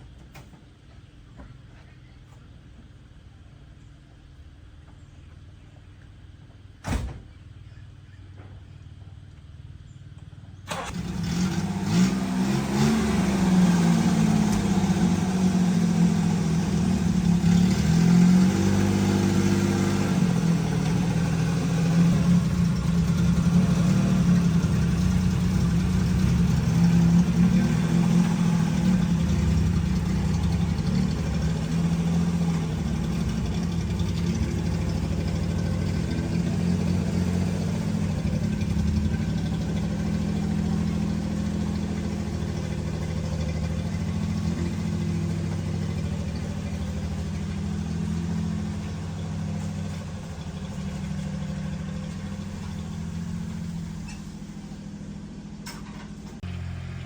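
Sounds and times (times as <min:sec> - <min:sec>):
truck engine starting and running: 0:04.2 - 0:57.0.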